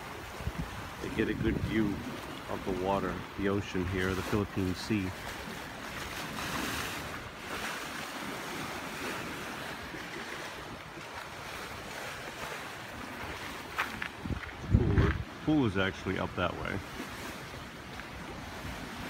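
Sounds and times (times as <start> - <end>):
sea waves on rocky shore: 0.0 - 19.0
wind buffeting microphone: 0.0 - 19.0.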